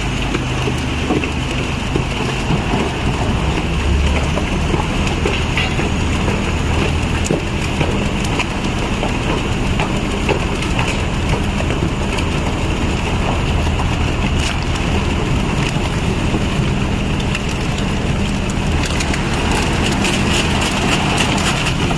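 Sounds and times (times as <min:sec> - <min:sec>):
even wash of noise: 0:00.0 - 0:21.9
machine engine running: 0:00.0 - 0:21.9.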